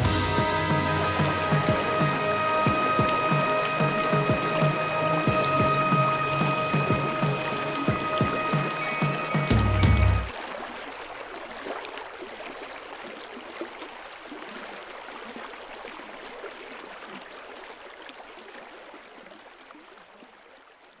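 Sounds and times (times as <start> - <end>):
stream water rushing: 0.0 - 20.4.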